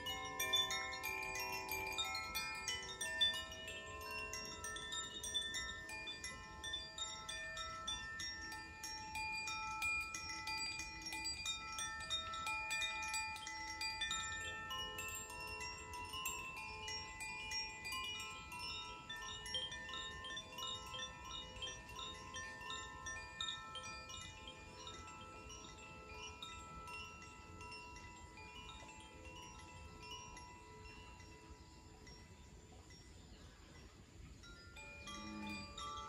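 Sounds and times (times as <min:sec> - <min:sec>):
wind chimes tinkling: 0:00.0 - 0:36.0.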